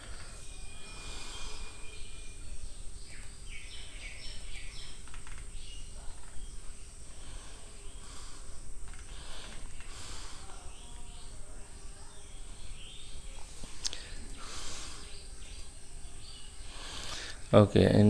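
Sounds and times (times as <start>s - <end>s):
faint high-pitched chirps: 0.0s - 18.0s.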